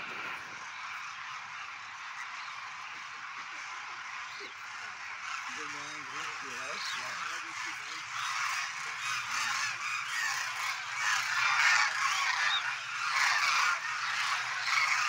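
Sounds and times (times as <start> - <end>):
flock of cranes calling: 0.0 - 15.0.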